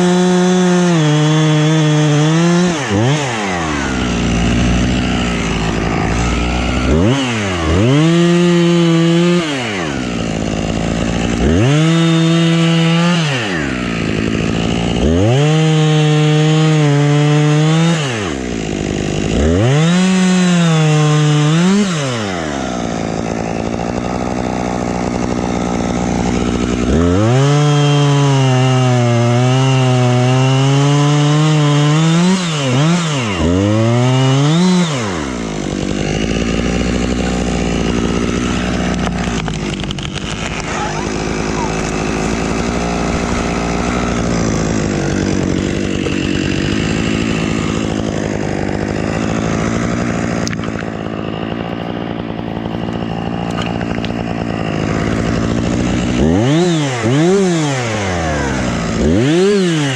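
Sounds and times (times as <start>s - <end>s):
chainsaw cutting wood: 0.0s - 59.9s
chainsaw revving and idling: 0.0s - 59.9s.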